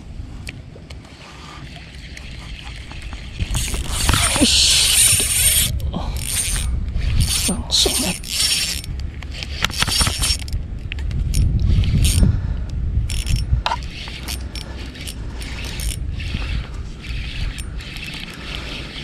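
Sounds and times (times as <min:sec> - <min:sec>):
fishing reel whirring: 0:01.8 - 0:10.6, 0:11.3 - 0:12.3, 0:13.1 - 0:19.0.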